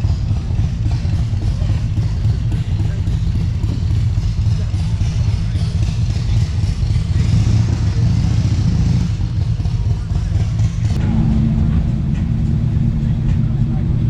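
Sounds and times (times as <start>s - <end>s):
car engine running low: 0.0s - 14.0s.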